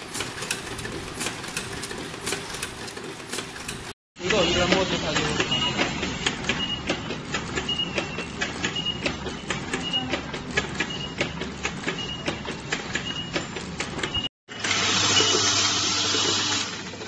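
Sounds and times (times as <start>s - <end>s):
machine clicking and clacking: 0.0s - 14.3s.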